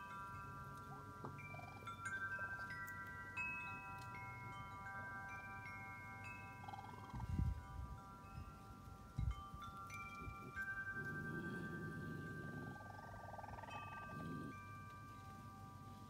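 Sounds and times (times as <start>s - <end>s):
chimes ringing: 0.0s - 16.0s.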